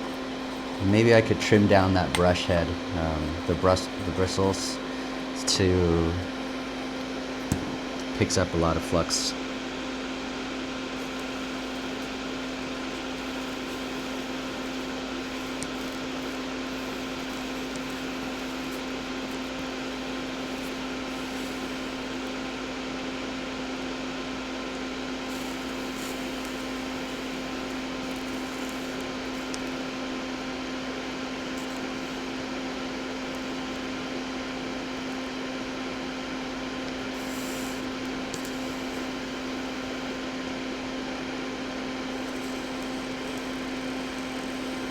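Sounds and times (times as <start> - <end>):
vent fan running: 0.0 - 44.9.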